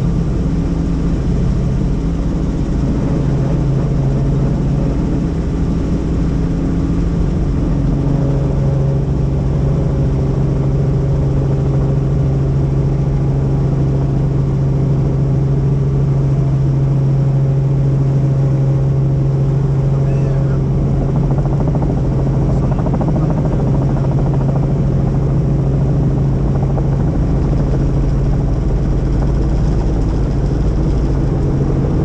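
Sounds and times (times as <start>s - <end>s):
helicopter engine and rotor: 0.0s - 32.0s.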